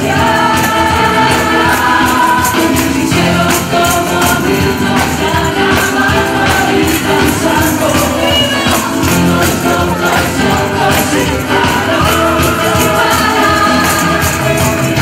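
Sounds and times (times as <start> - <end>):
gospel music with singing: 0.0 - 15.0
tambourine jingles: 0.0 - 15.0.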